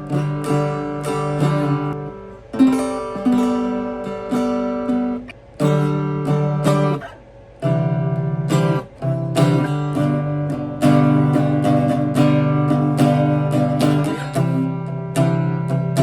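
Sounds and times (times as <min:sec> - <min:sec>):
guitar chords strummed: 0:00.0 - 0:16.0.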